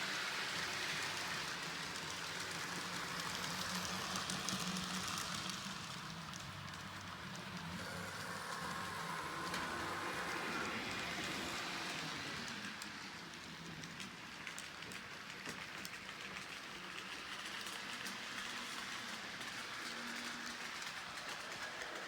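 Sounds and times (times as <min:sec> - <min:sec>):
model train wheels rolling on rail: 0:00.0 - 0:22.0.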